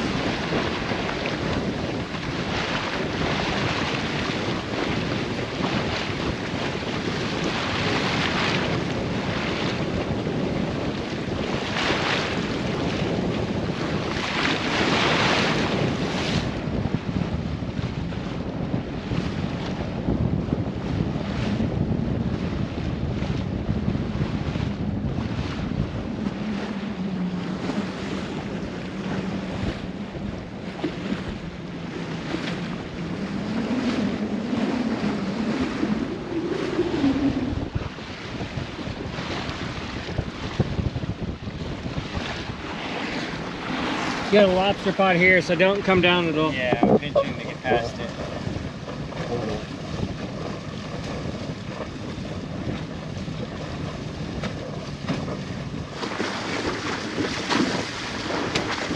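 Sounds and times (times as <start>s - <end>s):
water rushing along hull: 0.0s - 58.9s
wind buffeting microphone: 0.0s - 58.9s.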